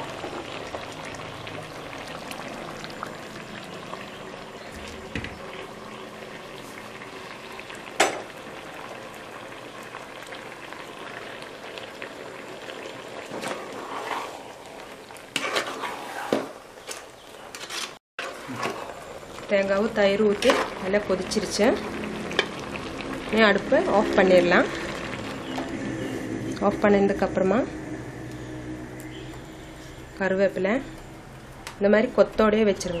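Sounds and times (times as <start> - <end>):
pot bubbling on stove: 0.0 - 16.8, 18.2 - 33.0.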